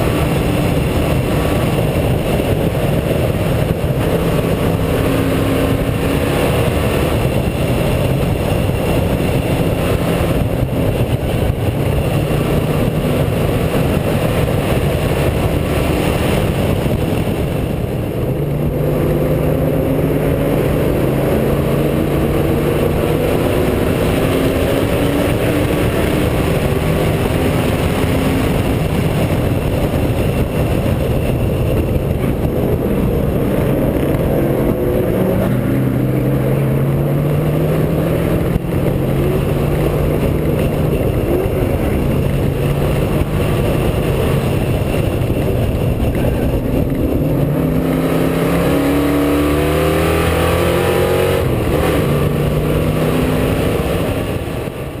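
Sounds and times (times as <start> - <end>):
race car engine accelerating: 0.0 - 55.0
wind and road noise: 0.0 - 55.0.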